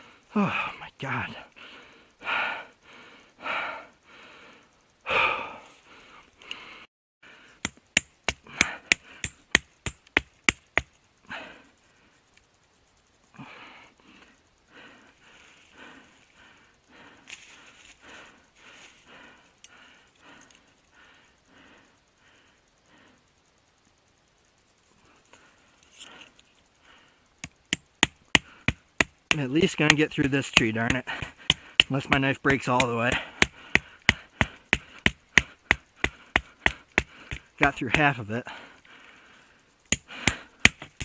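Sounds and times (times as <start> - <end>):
man breathing heavily: 0.0 - 12.3, 13.3 - 23.4, 25.0 - 27.3, 28.0 - 41.0.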